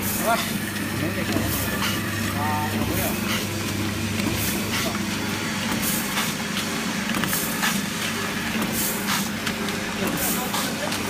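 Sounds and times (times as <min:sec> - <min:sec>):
machine low hum: 0:00.0 - 0:10.5.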